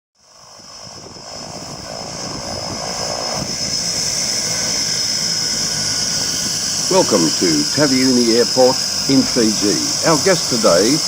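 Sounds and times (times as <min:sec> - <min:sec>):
propeller aircraft engines: 0:00.2 - 0:11.0.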